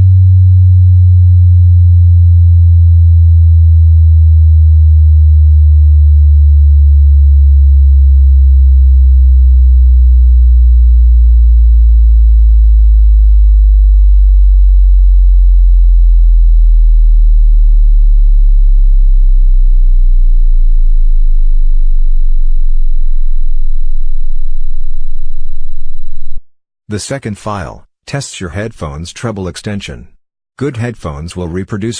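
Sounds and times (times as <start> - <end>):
sine wave bass test tone: 0.0 - 26.5.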